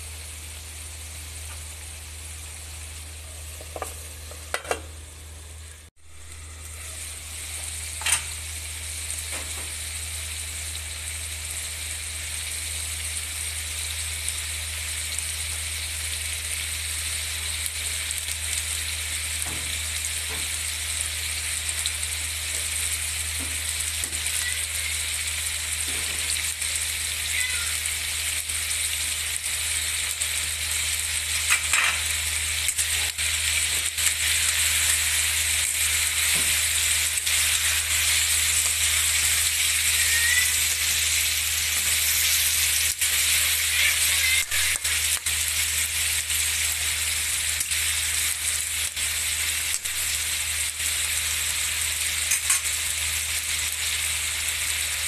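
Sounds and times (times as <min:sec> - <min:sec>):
food sizzling in a wok: 0:00.0 - 0:55.0.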